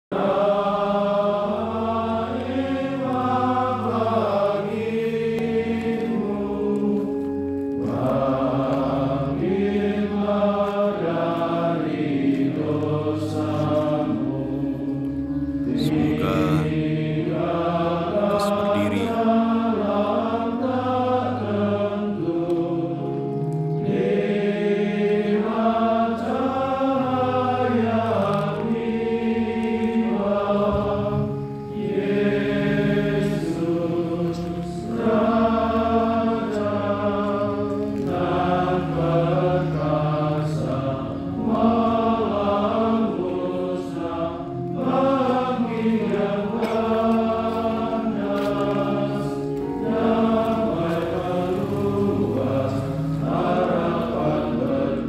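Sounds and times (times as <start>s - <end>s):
slow chant-like singing: 0.1s - 55.0s
sustained low accompaniment notes: 0.2s - 55.0s.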